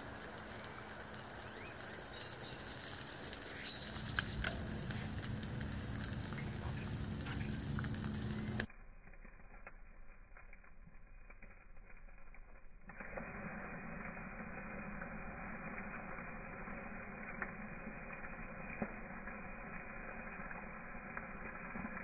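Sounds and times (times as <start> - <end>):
battery venting hiss: 0.0 - 8.7, 12.4 - 22.0
crackles and sharp pops: 0.0 - 22.0.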